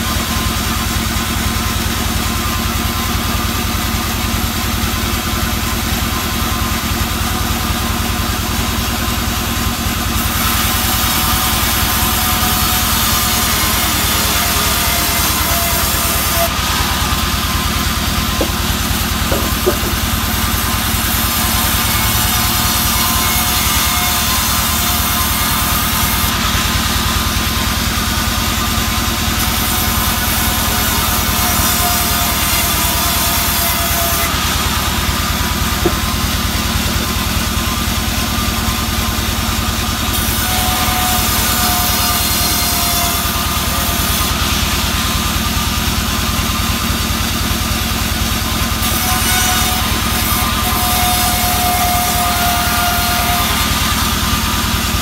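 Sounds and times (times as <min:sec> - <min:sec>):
band saw droning: 0:00.0 - 0:55.0.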